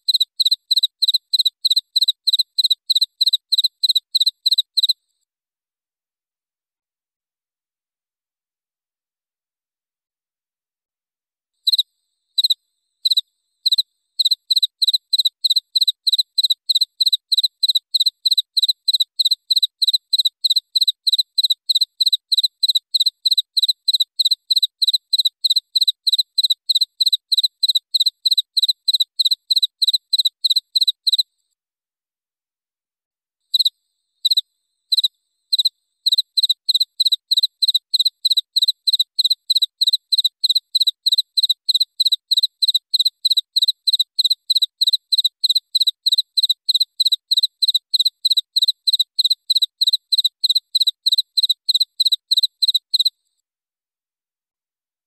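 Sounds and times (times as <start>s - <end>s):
cricket chirping: 0.0s - 5.0s, 11.6s - 31.2s, 33.5s - 53.1s.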